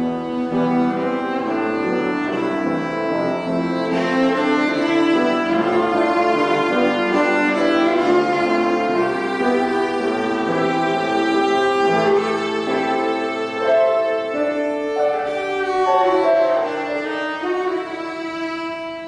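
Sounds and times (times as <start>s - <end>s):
bowed cello: 0.0s - 19.0s
grand piano: 0.0s - 19.0s.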